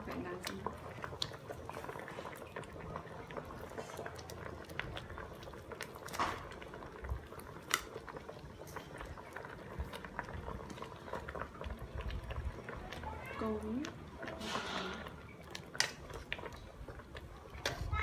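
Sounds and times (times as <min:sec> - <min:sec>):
liquid bubbling at a boil: 0:00.0 - 0:18.0.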